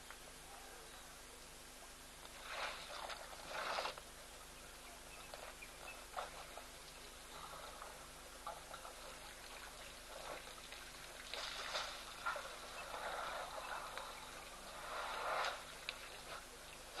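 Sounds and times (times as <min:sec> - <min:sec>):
steady hiss: 0:00.0 - 0:17.0
water and mud splashing: 0:02.2 - 0:17.0.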